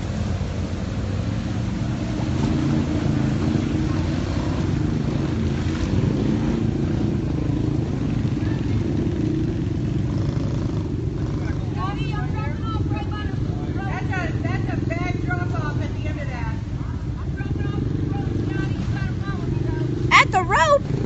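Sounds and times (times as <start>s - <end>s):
constant rushing noise: 0.0s - 21.0s.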